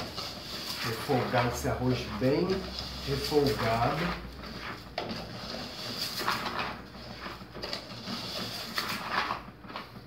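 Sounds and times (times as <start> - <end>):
rice frying hiss: 0.0 - 9.6
wooden spoon scraping pot: 0.0 - 10.0.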